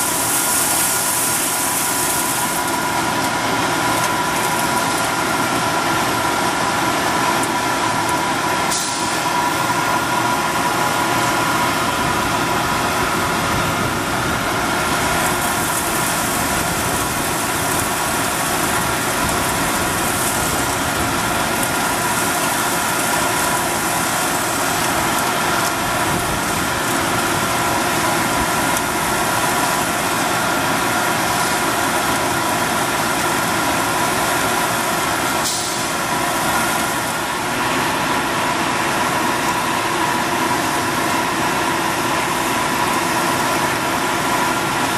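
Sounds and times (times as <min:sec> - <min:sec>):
engine idling: 0:00.0 - 0:44.9
steady high whine: 0:00.0 - 0:44.9.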